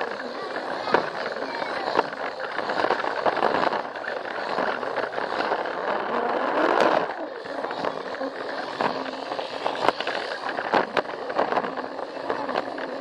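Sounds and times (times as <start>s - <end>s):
plastic wheels rattling over track: 0.0s - 13.0s
toy train motor whirring: 0.0s - 13.0s.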